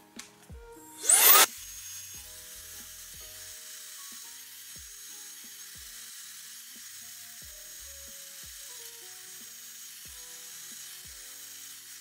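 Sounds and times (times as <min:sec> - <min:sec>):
background music: 0:00.0 - 0:12.0
hair dryer whine and hiss: 0:00.8 - 0:12.0.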